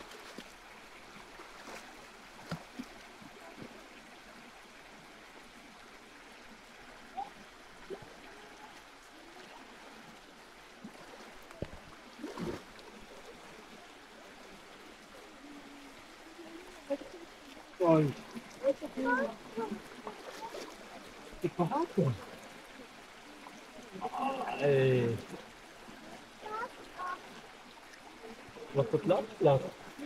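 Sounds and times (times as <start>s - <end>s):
running water: 0.0s - 30.0s.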